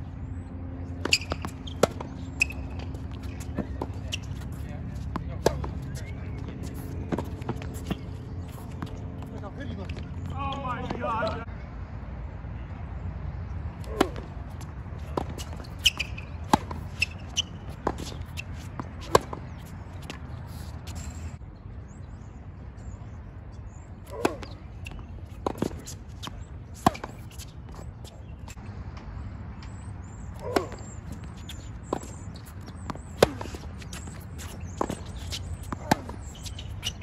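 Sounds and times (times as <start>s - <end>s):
tennis ball hits and bounces: 0.8s - 11.4s, 13.8s - 21.2s, 24.1s - 29.8s, 30.4s - 37.0s.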